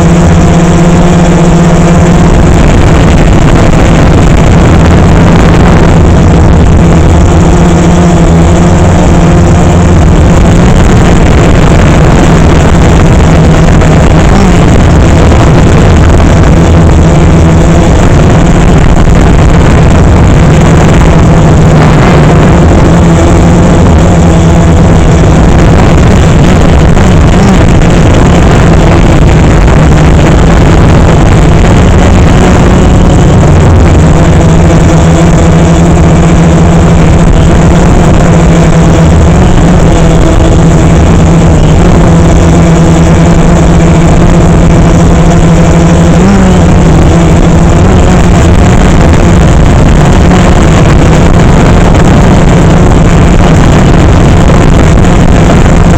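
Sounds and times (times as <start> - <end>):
drone motors buzzing: 0.0 - 55.9.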